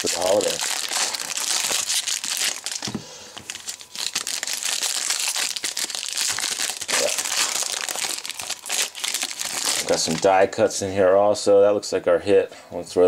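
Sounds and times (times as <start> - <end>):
foil wrappers crinkling and tearing: 0.0 - 10.5.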